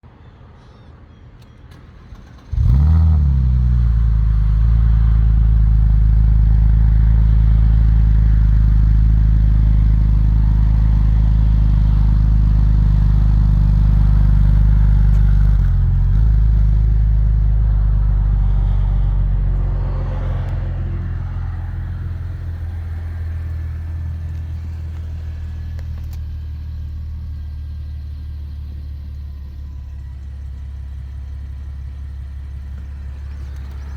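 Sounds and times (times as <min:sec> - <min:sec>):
car engine starting and idling: 0:01.3 - 0:33.9.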